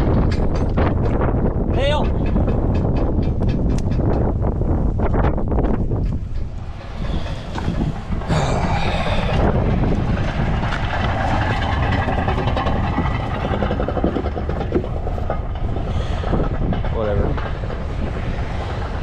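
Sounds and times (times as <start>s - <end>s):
knocks and clatters: 0.0s - 19.0s
truck rumbling and rattling: 0.0s - 19.0s.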